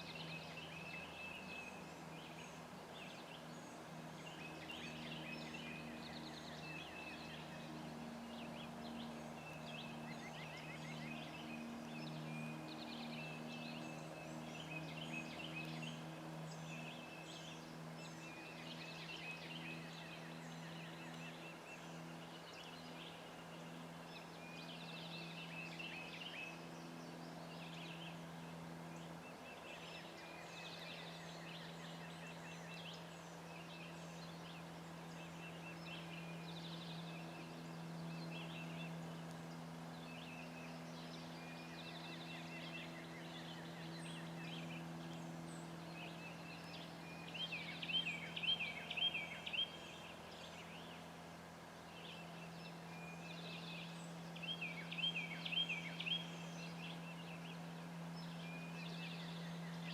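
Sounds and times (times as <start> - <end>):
small songbirds calling: 0.0 - 59.9
steady low hum: 0.0 - 59.9.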